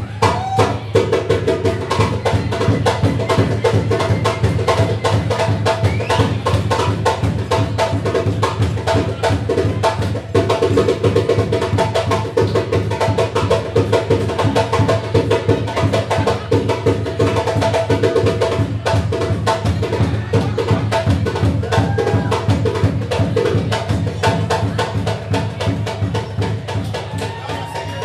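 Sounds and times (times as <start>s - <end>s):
fast drum-driven music: 0.1s - 28.0s.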